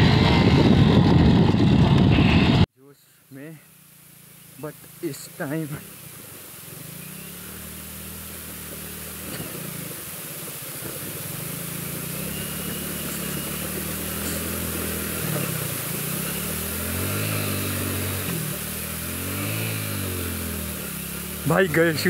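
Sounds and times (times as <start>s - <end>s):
motorcycle engine running: 0.0s - 2.6s, 3.4s - 22.0s.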